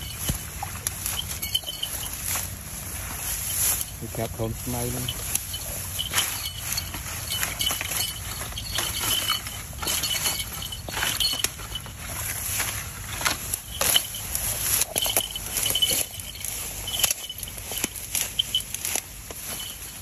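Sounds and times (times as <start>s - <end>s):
dry grass rustling and crackling: 0.0s - 20.0s.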